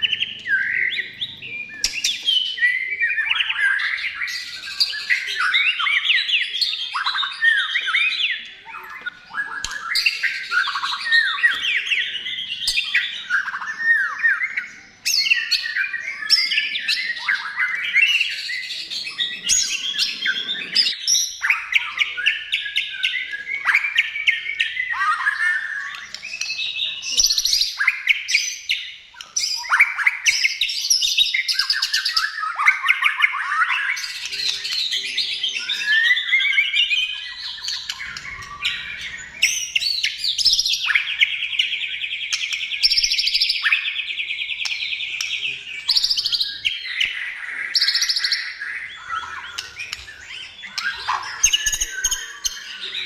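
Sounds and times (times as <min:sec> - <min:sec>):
bird singing whistled phrases: 0:00.0 - 0:53.0.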